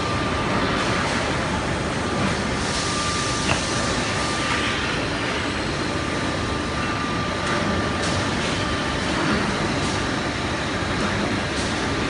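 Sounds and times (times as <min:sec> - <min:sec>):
roller conveyor running: 0:00.0 - 0:12.0.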